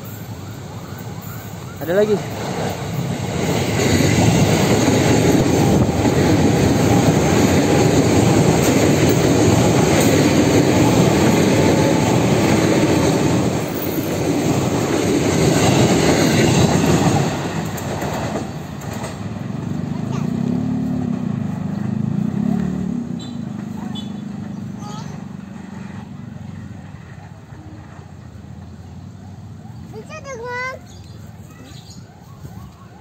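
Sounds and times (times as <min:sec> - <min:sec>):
train wheels on rails passing: 0:00.0 - 0:33.0.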